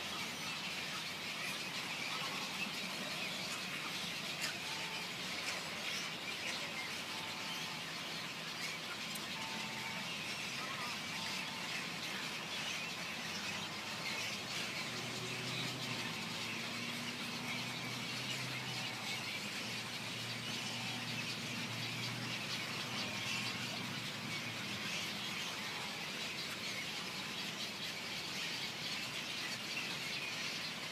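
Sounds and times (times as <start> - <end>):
flock of birds calling: 0.0 - 30.9.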